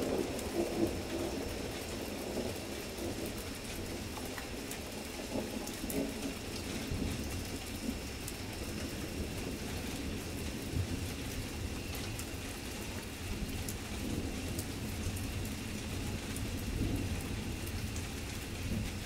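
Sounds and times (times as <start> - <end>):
heavy rain pouring: 0.0 - 19.0
low thunder rumble: 0.0 - 19.0.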